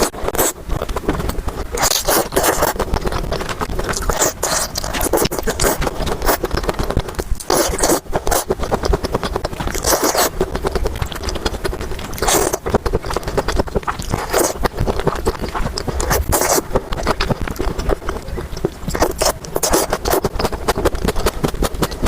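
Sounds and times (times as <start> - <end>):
wet chewing and biting: 0.0 - 22.0.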